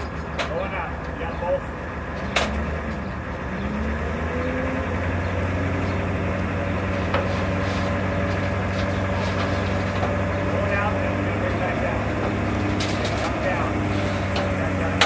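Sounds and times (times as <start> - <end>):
crane hoist engine running: 0.0 - 15.0.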